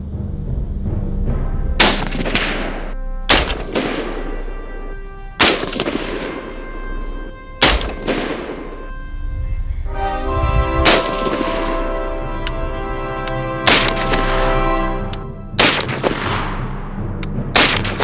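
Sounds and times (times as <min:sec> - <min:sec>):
background music: 0:00.0 - 0:18.0
gunshots with rolling echo: 0:01.8 - 0:09.0, 0:10.7 - 0:18.0.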